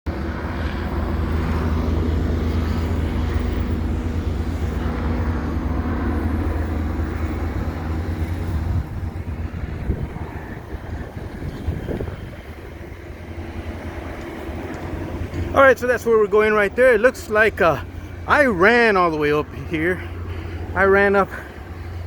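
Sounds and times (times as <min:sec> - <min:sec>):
low engine drone: 0:00.1 - 0:22.0.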